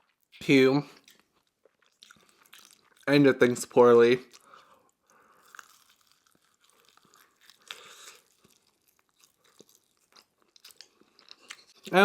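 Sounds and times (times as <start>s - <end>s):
chewing food: 0.0s - 3.2s, 4.2s - 12.0s.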